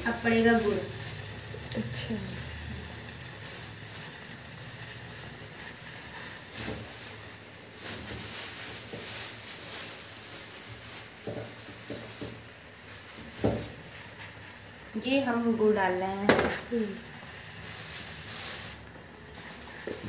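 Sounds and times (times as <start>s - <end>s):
tea simmering in a pan: 0.0s - 20.0s.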